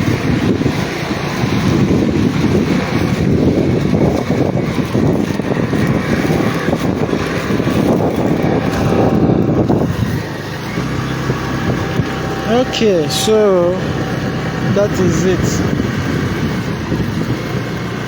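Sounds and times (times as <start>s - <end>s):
vehicle moving: 0.0s - 18.0s
wind buffeting microphone: 0.0s - 18.0s.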